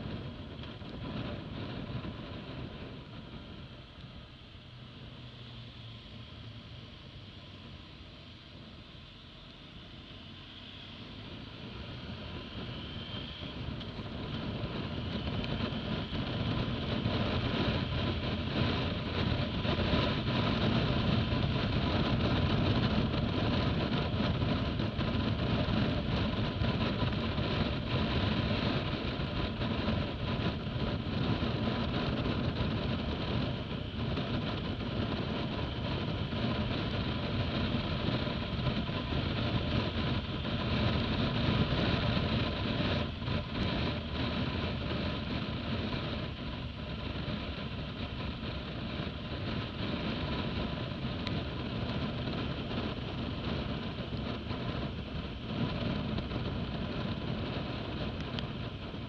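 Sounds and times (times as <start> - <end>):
wind rush: 0.0 - 9.0, 10.2 - 59.0
motorcycle engine accelerating: 11.0 - 59.0.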